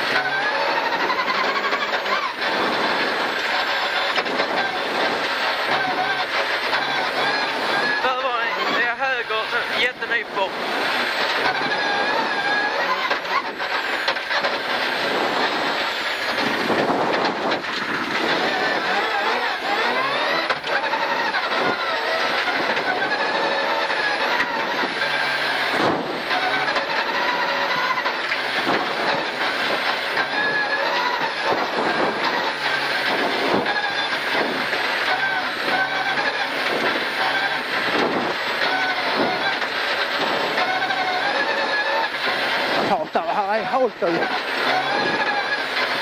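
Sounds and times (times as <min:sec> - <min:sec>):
rally car engine revving: 0:00.0 - 0:46.0
tyres on gravel: 0:00.0 - 0:46.0.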